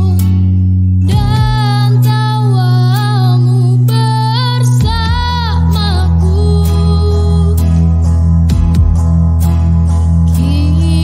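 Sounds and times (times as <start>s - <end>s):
slow pop ballad instrumental: 0.0s - 11.0s.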